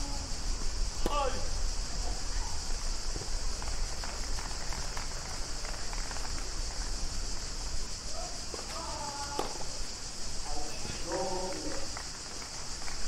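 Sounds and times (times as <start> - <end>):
constant hiss with low rumble: 0.0 - 13.0.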